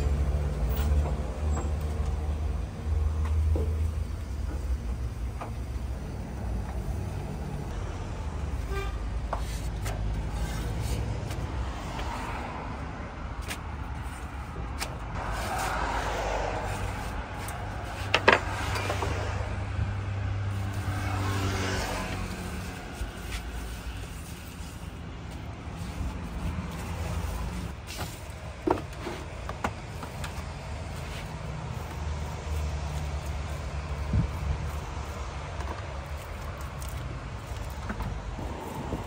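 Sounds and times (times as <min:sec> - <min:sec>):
low traffic rumble: 0:00.0 - 0:39.0
vehicles passing: 0:00.0 - 0:39.0.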